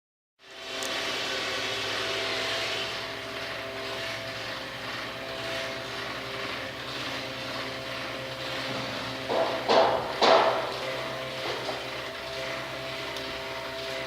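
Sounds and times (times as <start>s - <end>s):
cutting machine running: 0.4s - 14.0s.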